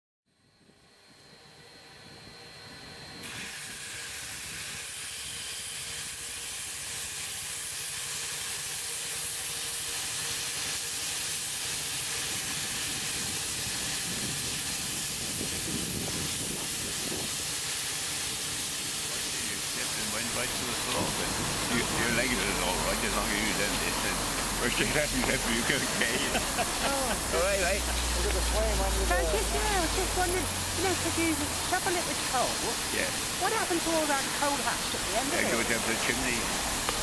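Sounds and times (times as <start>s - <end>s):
steam hissing from locomotive: 2.8s - 37.0s.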